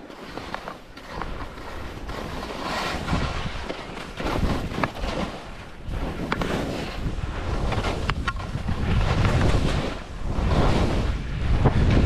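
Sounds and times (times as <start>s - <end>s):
low thumps of skis over bumps: 0.0s - 12.0s
skis scraping on snow: 0.0s - 12.0s
wind buffeting microphone: 1.1s - 12.0s.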